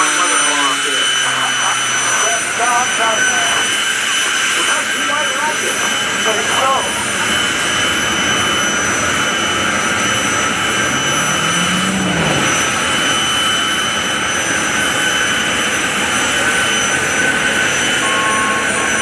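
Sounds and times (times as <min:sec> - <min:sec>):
aerobatic plane engine and propeller: 0:00.0 - 0:19.0.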